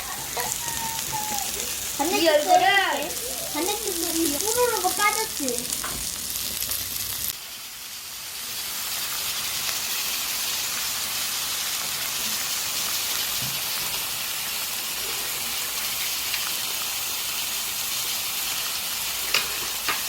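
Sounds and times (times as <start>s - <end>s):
meat sizzling on grill pan: 0.0s - 20.0s.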